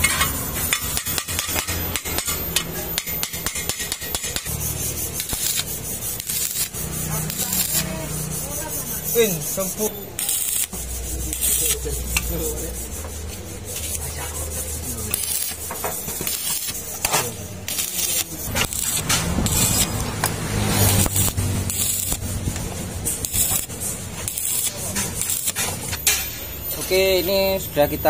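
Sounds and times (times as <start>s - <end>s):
welding electrode crackling: 0.0s - 28.0s.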